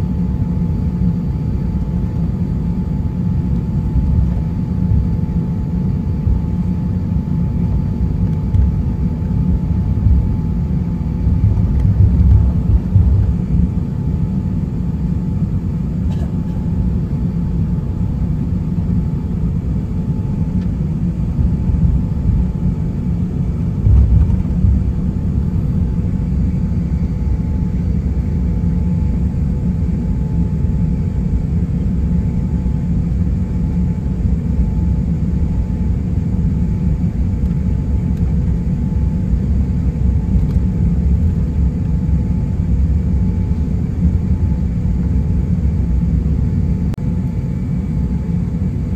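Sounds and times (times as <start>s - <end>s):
faint steady hum: 0.0s - 48.9s
low rumble of jet engines: 0.0s - 48.9s.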